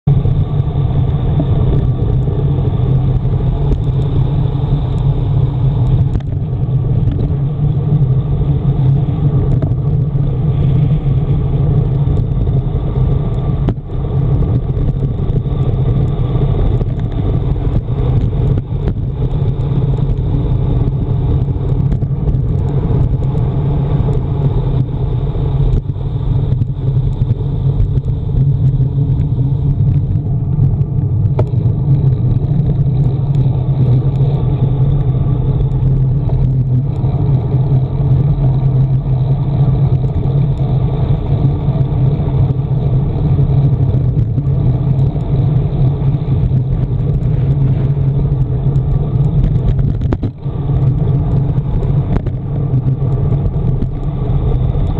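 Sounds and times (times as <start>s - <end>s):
tyres on tarmac: 0.0s - 54.9s
wind rush: 0.0s - 54.9s.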